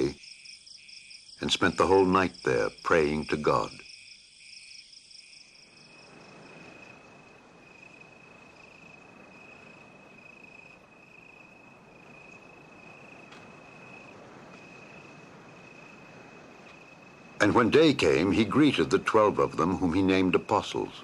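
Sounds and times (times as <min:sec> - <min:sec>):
crickets chirping: 0:00.0 - 0:21.0
soft background hiss: 0:00.0 - 0:21.0.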